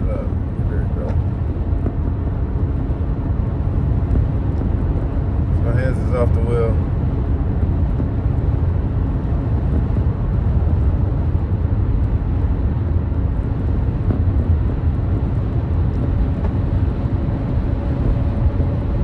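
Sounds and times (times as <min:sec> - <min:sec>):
road and tyre noise in car: 0:00.0 - 0:19.0.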